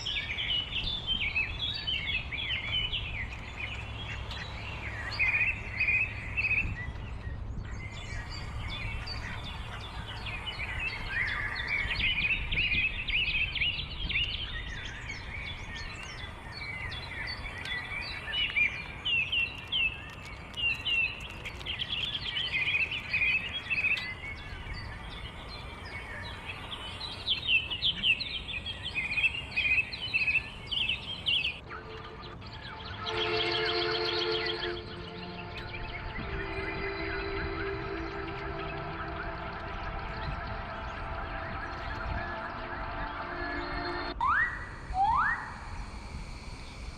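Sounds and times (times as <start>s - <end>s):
low outdoor rumble: 0.0s - 46.9s
small birds chirping: 0.0s - 46.9s.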